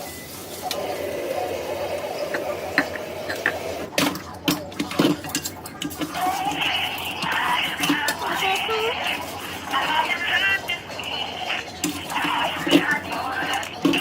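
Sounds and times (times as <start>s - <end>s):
running water rinsing rice: 0.0s - 14.0s.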